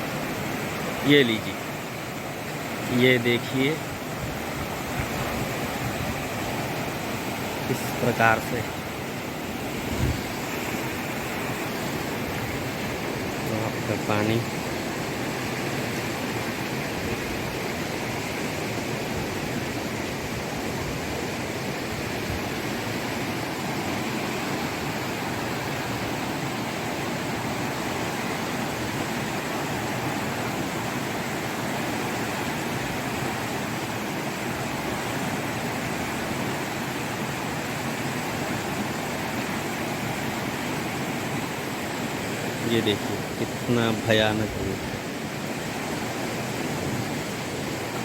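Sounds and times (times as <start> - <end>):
floodwater rushing: 0.0 - 48.0.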